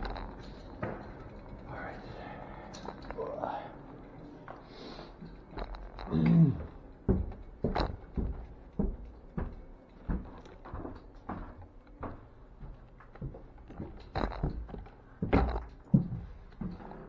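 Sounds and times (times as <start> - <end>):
footsteps climbing stairs: 0.0 - 3.3, 4.3 - 17.0.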